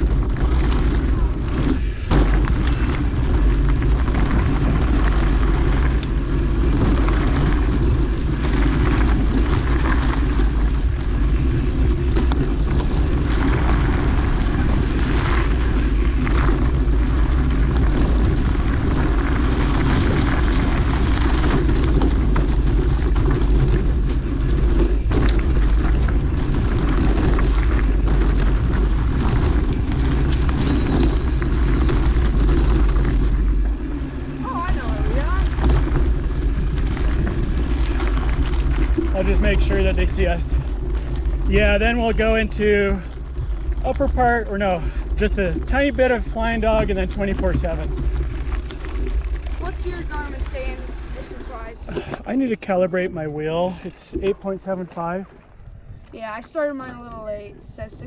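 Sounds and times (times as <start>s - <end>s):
bike knocks and rattles: 0.0s - 52.5s
tyres rolling over dirt: 0.0s - 56.5s
wind buffeting microphone: 0.0s - 58.0s.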